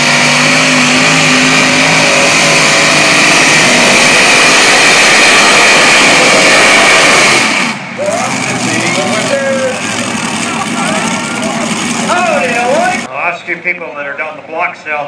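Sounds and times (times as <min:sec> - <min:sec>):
engine roaring under load: 0:00.0 - 0:13.1.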